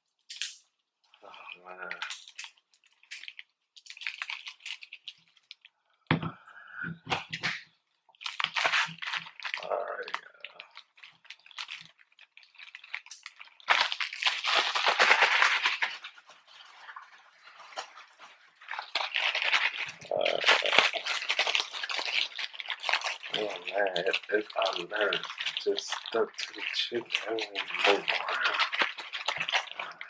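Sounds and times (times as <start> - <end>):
food packaging rustling and crinkling: 0.3 - 5.7, 7.1 - 30.0.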